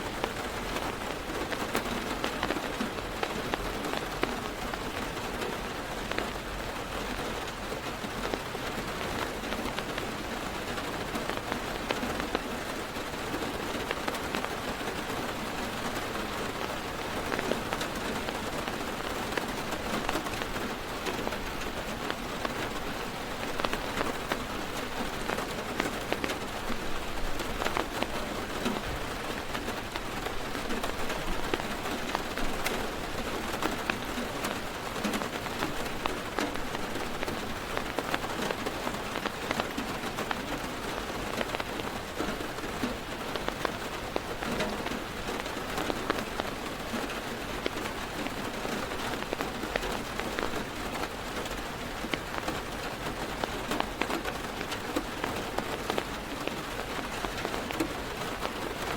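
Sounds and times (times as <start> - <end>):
heavy rain on car roof: 0.0 - 58.9
raindrops ticking sharply: 0.1 - 58.9.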